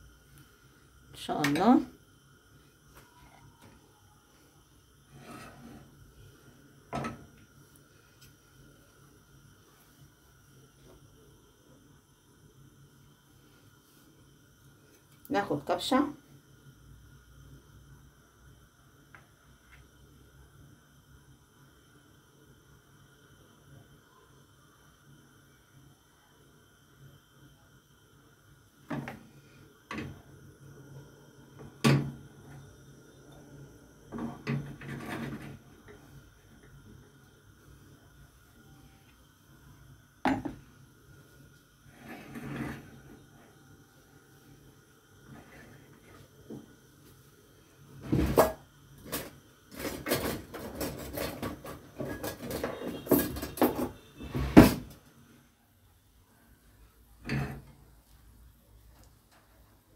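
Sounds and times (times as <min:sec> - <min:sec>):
low steady hum: 0:00.0 - 0:50.2.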